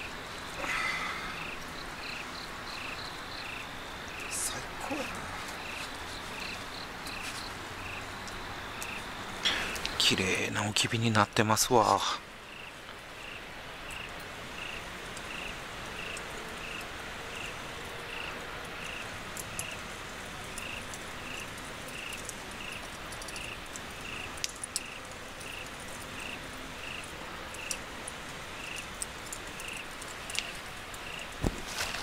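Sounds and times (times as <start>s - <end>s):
insect chirping: 0.0s - 31.4s
background hiss: 0.0s - 32.0s
charcoal embers crackling: 0.0s - 32.0s.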